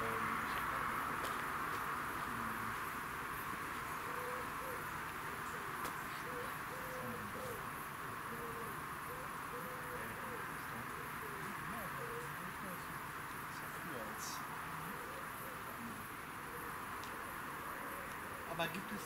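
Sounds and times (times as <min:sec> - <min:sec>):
low hoot-like calls: 0:00.0 - 0:02.8, 0:03.7 - 0:17.2
crickets chirping: 0:00.0 - 0:19.0.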